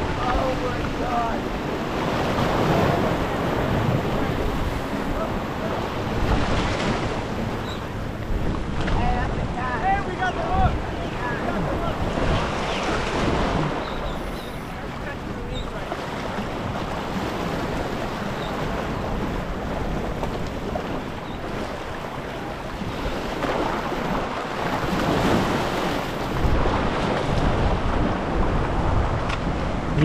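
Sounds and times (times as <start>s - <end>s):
surf splashing against rocks: 0.0s - 30.0s
wind buffeting microphone: 0.0s - 30.0s.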